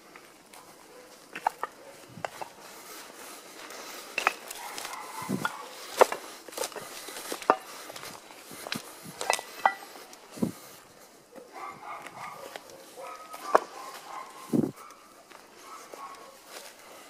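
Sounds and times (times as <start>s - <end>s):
footsteps on dry grass and rubble: 0.0s - 17.0s.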